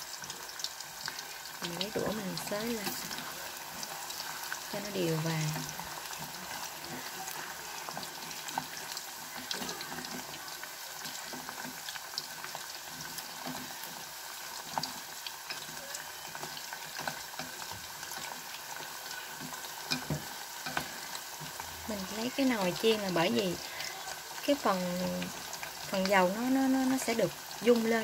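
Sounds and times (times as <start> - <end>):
food sizzling in hot oil: 0.0 - 28.0
oil crackling and popping: 0.0 - 28.0.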